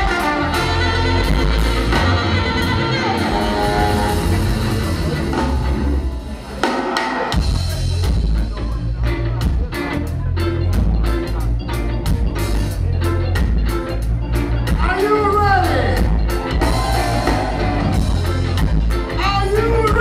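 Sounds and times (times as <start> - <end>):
drums on steady beat: 0.0 - 20.0
live ska band playing: 0.0 - 20.0.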